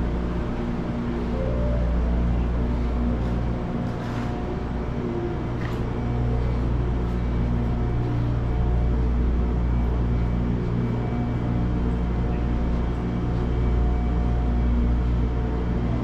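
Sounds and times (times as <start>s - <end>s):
standing train drone: 0.0s - 16.0s.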